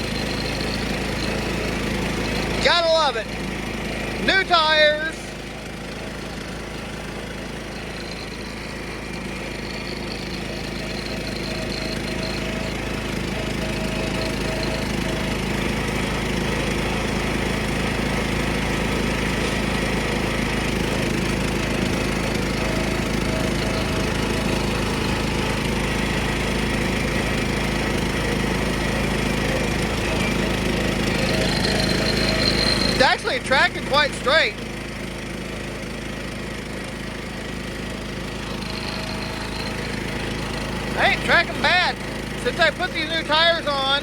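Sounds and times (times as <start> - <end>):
lawn tractor engine running: 0.0 - 44.0.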